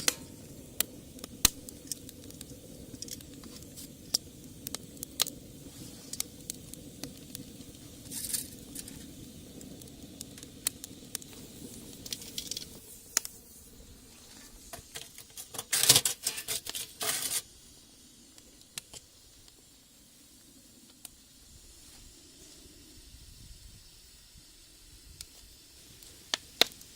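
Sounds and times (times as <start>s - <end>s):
low fire rumble: 0.0s - 15.6s, 16.5s - 26.9s
wood fire crackling: 0.0s - 26.9s.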